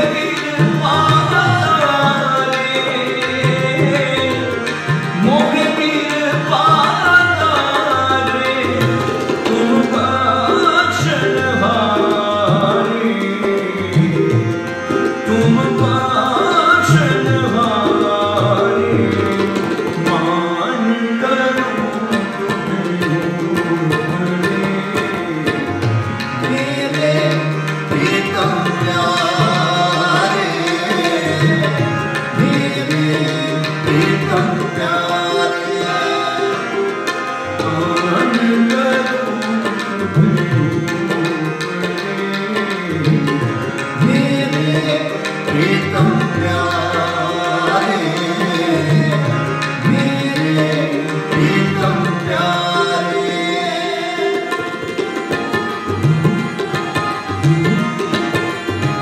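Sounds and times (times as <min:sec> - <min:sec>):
harmonium melody: 0:00.0 - 0:59.0
man singing: 0:00.0 - 0:59.0
tabla rhythm: 0:00.0 - 0:59.0.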